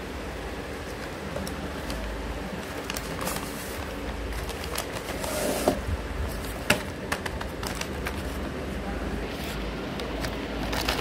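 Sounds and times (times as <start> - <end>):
steady hum and hiss: 0.0 - 11.0
paper bags crinkling and tapping: 0.8 - 8.7, 10.0 - 11.0.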